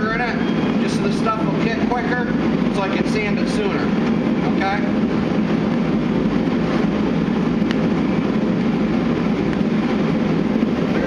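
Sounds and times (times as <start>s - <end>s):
machine droning: 0.0s - 11.0s.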